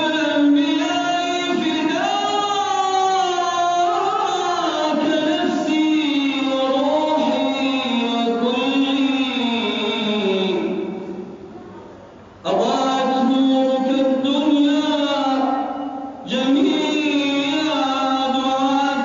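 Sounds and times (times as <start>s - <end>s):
man singing melismatic held notes: 0.0s - 11.1s, 12.4s - 19.0s.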